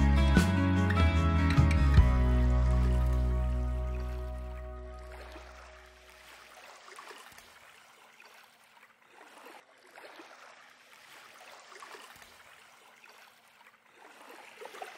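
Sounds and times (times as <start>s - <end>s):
water lapping over pebbles: 2.4s - 14.9s.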